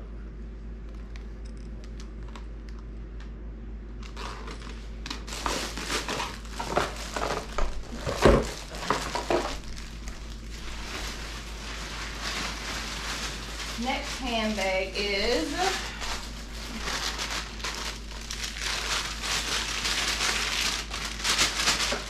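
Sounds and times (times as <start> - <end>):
plastic bags crinkling: 4.0 - 22.0.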